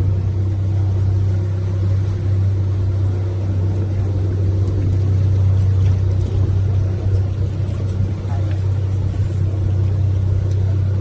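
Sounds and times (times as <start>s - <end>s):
boat engine droning: 0.0s - 11.0s
water against hull: 0.0s - 11.0s.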